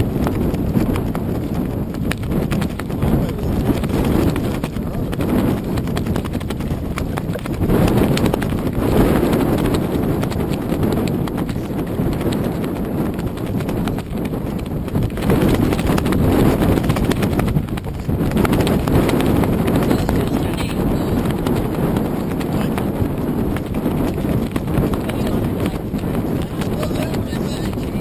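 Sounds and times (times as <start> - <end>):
rapid knocks and slaps: 0.0 - 19.8, 21.2 - 26.8
rumble of wind and water: 0.0 - 28.0.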